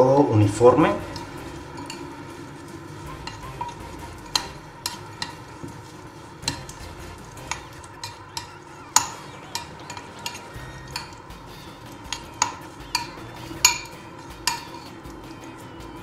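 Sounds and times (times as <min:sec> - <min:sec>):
spoon scraping thick mix: 0:00.6 - 0:16.0
spoon clinking against bowl: 0:01.0 - 0:02.2, 0:03.0 - 0:05.8, 0:06.4 - 0:15.6.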